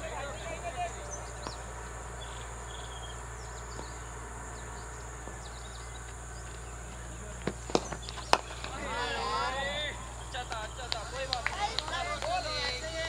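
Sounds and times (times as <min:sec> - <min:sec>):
low hum: 0:00.0 - 0:11.3
constant high hiss: 0:00.0 - 0:13.0.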